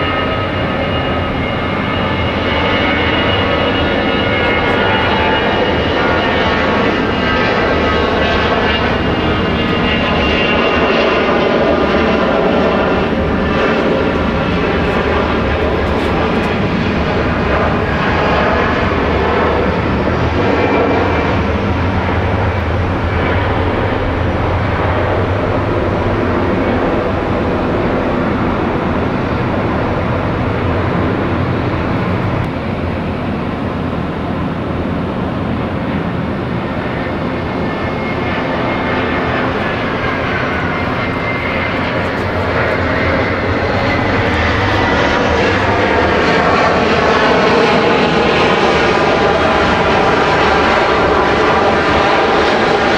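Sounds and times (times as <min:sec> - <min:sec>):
jet engines rumbling with whine: 0:00.0 - 0:52.9.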